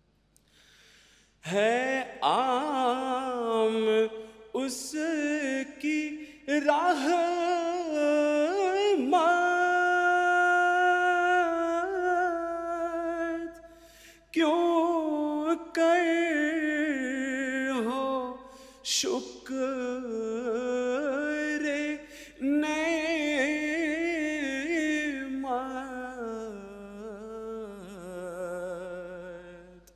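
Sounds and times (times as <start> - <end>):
man singing unaccompanied: 1.4 - 13.6, 14.2 - 29.9.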